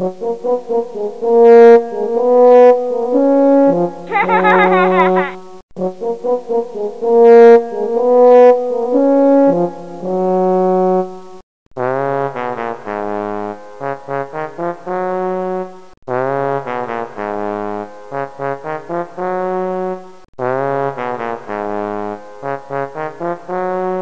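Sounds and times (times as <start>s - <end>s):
bouncy brass tune: 0.0s - 11.0s, 11.8s - 24.0s.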